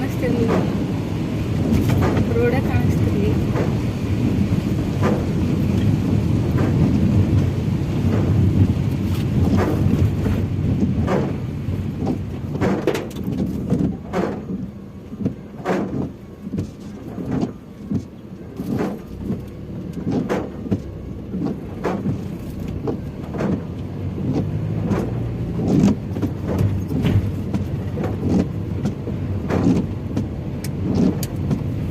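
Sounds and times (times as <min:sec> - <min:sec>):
road and engine rumble: 0:00.0 - 0:31.9.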